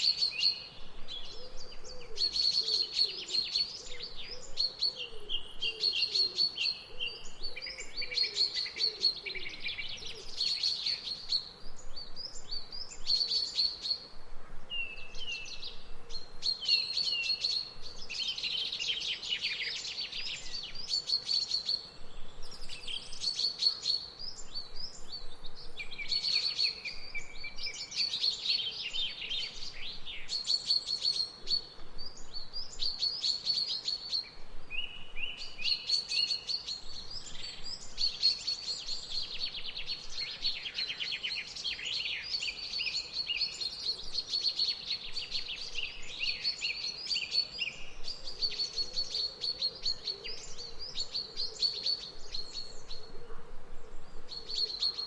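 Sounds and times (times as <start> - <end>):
soft lower bird calls: 0.0 - 55.0
songbirds singing: 0.0 - 55.0.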